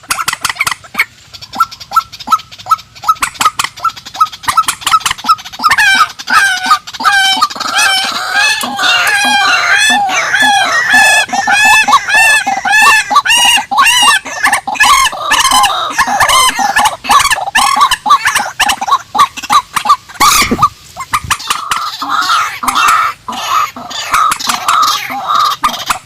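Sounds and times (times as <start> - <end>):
water birds cackling: 0.0 - 26.0.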